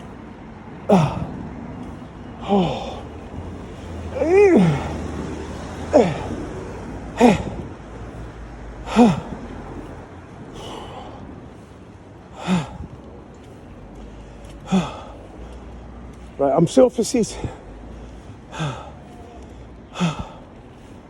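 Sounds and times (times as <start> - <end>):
man panting heavily: 0.0 - 16.4, 17.1 - 21.0.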